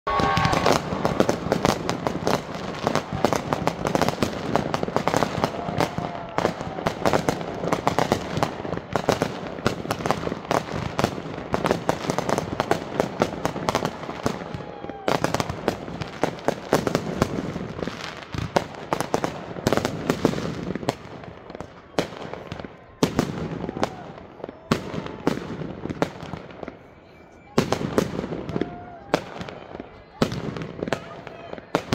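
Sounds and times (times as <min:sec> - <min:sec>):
fireworks bursting and crackling: 0:00.1 - 0:31.9.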